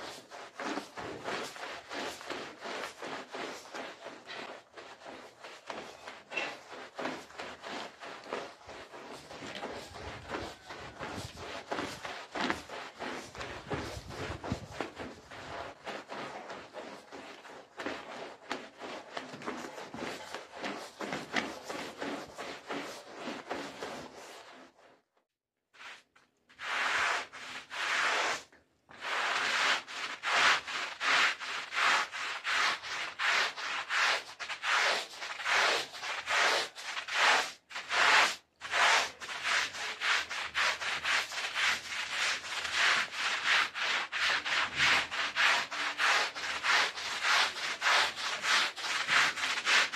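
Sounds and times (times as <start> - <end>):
push broom scrubbing: 0.0 - 24.9, 26.6 - 49.9
brushes scrubbing wet rug: 0.0 - 25.0, 25.8 - 49.9.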